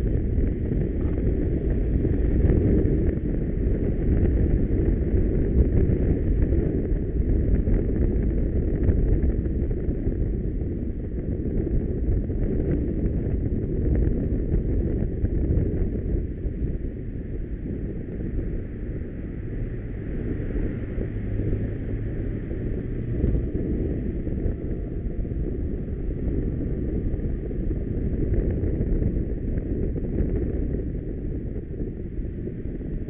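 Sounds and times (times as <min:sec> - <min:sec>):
surrounding traffic: 0:00.0 - 0:33.0
wind rumble on microphone: 0:00.0 - 0:33.0.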